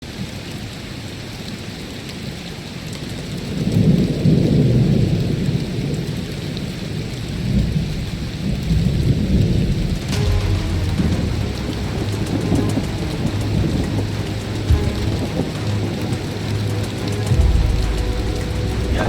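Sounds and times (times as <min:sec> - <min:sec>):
steady rain: 0:00.0 - 0:19.0
rolling thunder: 0:03.5 - 0:19.0.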